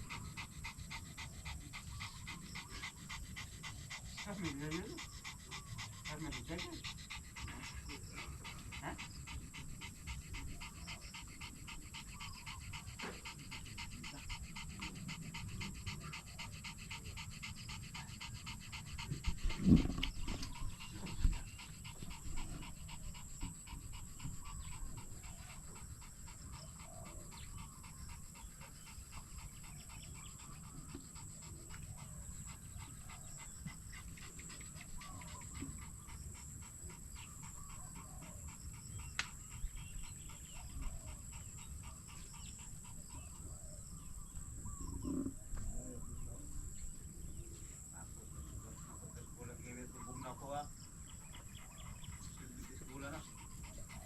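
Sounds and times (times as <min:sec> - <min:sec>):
rapid panting: 0:00.0 - 0:54.0.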